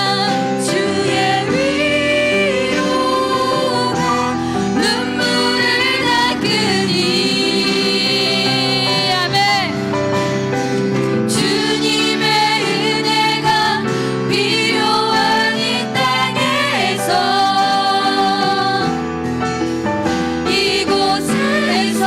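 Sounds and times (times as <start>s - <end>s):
church band playing worship song: 0.0s - 22.0s.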